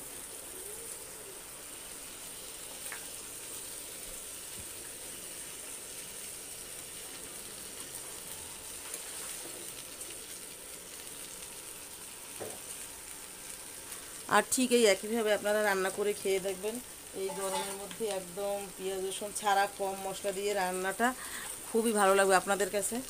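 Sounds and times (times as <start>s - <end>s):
food sizzling in oil: 0.0s - 23.0s.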